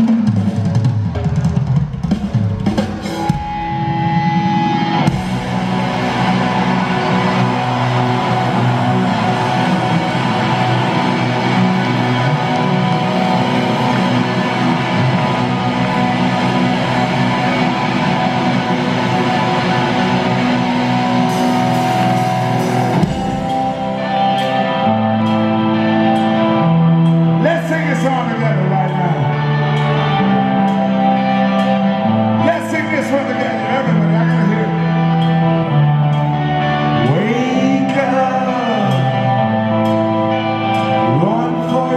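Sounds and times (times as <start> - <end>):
live rock band playing: 0.0 - 41.9
held guitar chords ringing: 3.1 - 41.9.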